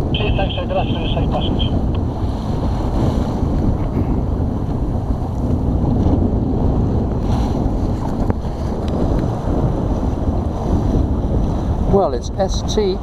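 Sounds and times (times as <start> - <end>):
wind blowing across microphone: 0.0 - 13.0
choppy water splashing on hull: 1.7 - 13.0.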